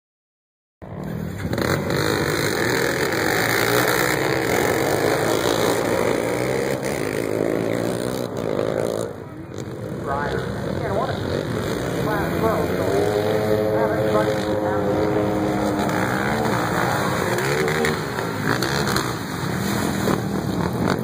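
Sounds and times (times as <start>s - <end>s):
racing quad engines revving: 0.8s - 21.0s.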